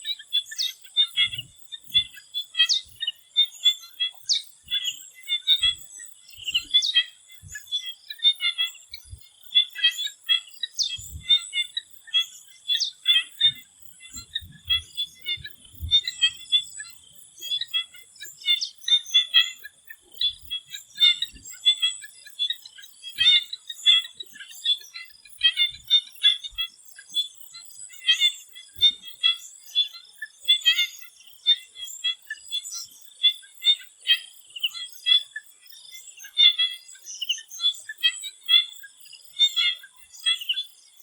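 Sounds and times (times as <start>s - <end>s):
frogs calling: 0.0s - 41.0s.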